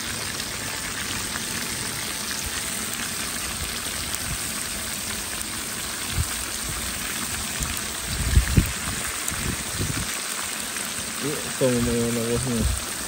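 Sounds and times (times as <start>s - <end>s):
meat and onions sizzling: 0.0s - 13.0s.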